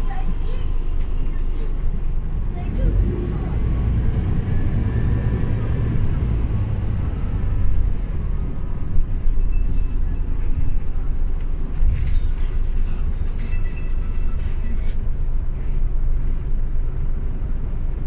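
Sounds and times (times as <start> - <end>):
diesel bus engine: 0.0 - 18.0
road rumble: 0.0 - 18.0.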